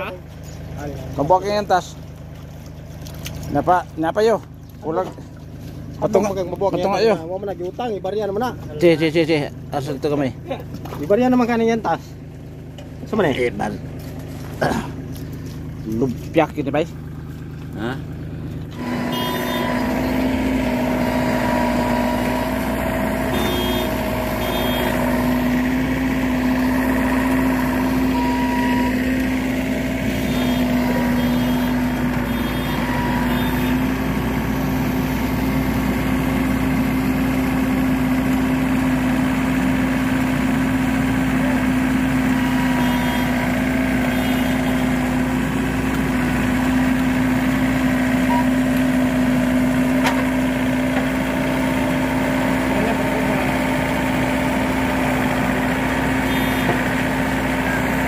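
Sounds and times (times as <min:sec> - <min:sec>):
harvester diesel engine humming: 0:00.0 - 0:58.0.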